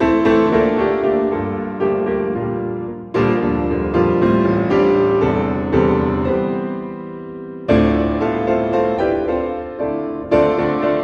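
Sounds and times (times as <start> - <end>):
grand piano chords: 0.0 - 11.0.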